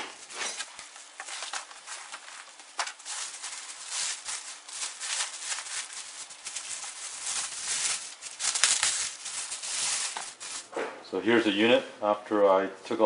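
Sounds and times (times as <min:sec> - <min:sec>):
plastic bag and foam crinkling: 0:00.2 - 0:10.7.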